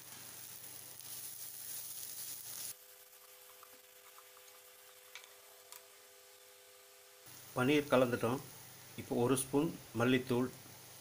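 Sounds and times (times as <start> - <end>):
vegetables sizzling in pan: 0.0 - 5.6, 6.2 - 11.0.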